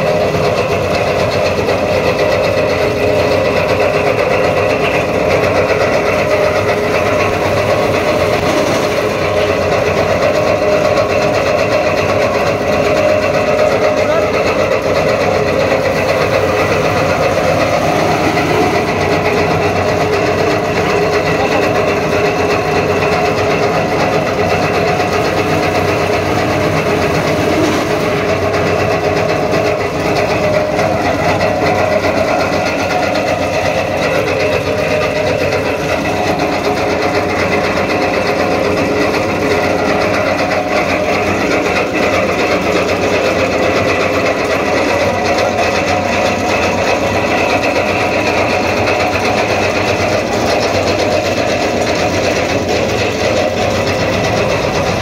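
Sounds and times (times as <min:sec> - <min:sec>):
beater drum rattling: 0:00.0 - 0:55.0
tractor engine running: 0:00.0 - 0:55.0.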